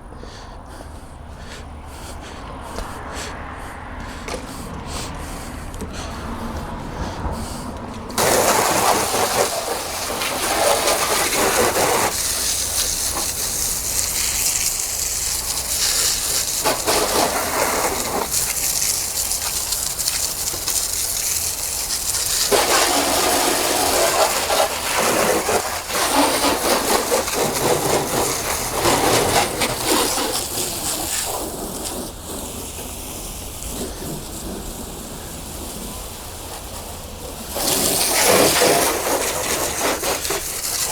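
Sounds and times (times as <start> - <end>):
water spraying onto car: 0.0 - 40.9.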